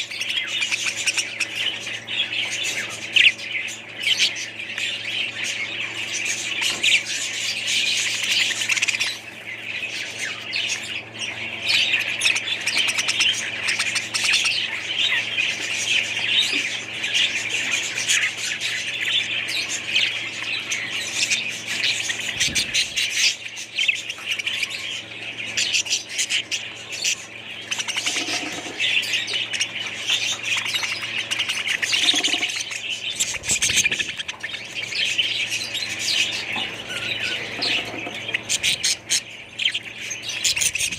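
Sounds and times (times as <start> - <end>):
pet birds chattering and squawking: 0.0 - 40.9.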